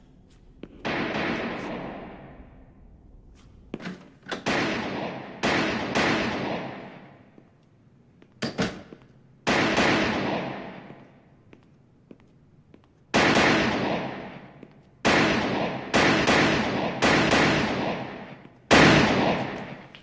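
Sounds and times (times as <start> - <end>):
revolver shots echoing indoors: 0.0 - 11.5, 13.0 - 20.0
smaller sharp cracks: 0.7 - 11.4, 13.1 - 20.0.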